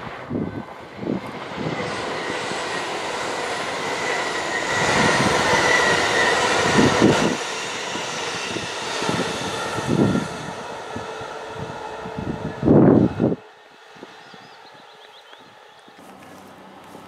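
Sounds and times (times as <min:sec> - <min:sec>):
high-speed train passing: 0:00.0 - 0:17.0.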